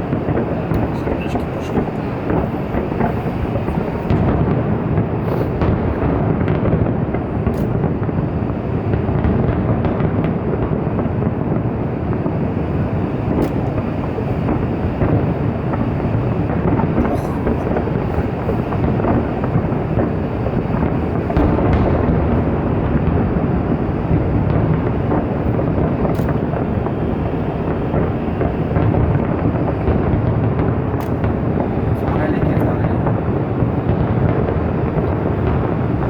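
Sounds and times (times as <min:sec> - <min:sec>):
fireworks booming: 0:00.0 - 0:36.0
sharp fireworks cracks: 0:00.0 - 0:36.0.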